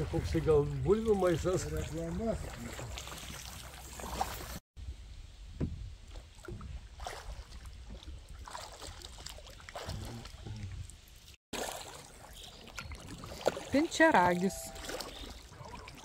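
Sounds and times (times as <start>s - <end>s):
kayak paddle splashing: 0.0s - 4.6s, 6.0s - 10.4s, 11.2s - 16.0s.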